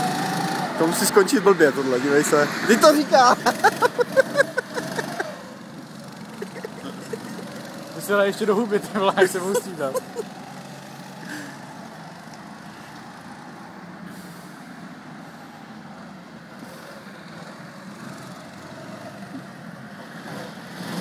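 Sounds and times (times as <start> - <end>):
distant go-kart engines: 0.0 - 21.0.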